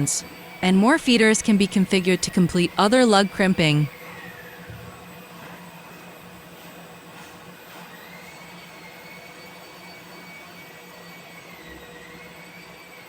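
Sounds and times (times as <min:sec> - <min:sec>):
faint machine whine: 0:00.0 - 0:13.0
machinery whirring and hissing: 0:00.0 - 0:13.0.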